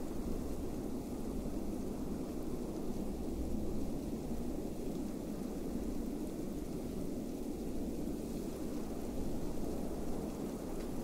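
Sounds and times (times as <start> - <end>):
low wind noise: 0.0 - 11.0.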